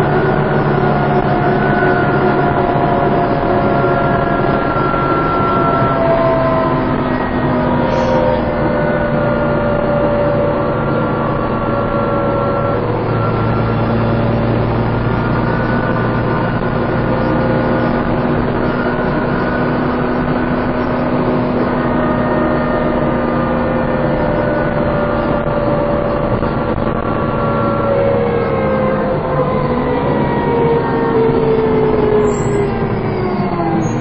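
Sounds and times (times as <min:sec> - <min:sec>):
bus engine with whine: 0:00.0 - 0:34.0.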